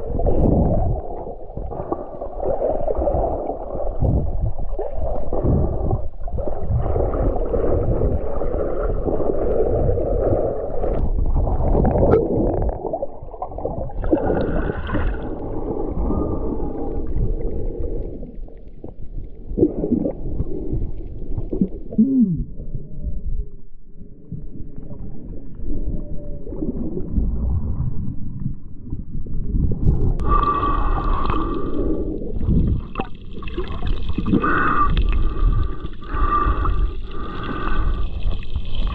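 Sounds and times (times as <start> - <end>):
muffled water gurgling and rumbling: 0.0 - 38.9.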